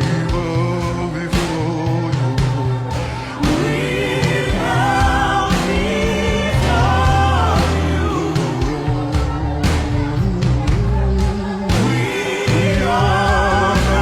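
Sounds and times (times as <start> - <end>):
band playing gospel music: 0.0 - 14.0
singers holding long notes: 0.0 - 14.0
steady drum hits: 0.0 - 14.0
sustained bass: 0.0 - 14.0.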